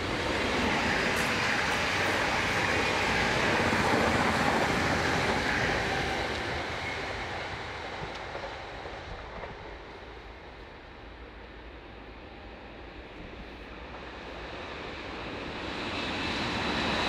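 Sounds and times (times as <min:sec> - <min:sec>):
train wheels rushing on rails: 0:00.0 - 0:17.0.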